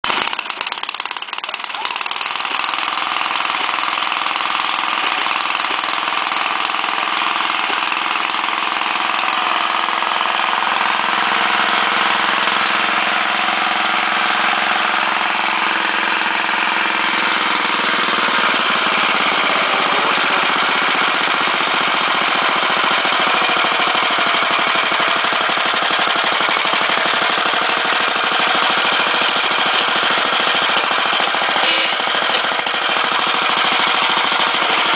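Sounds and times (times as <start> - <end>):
fast mechanical rattle: 0.0 - 34.9
mower engine running: 0.0 - 34.9.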